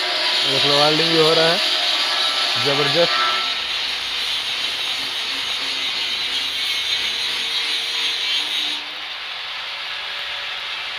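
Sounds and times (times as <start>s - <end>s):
welding arc crackling hiss: 0.0s - 10.9s.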